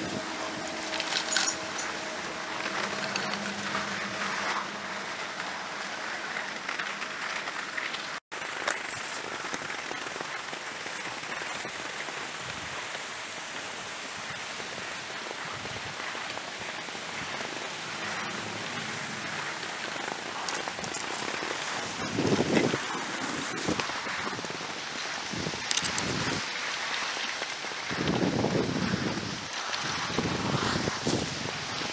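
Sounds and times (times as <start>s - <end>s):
skis hissing over snow: 0.0s - 31.9s.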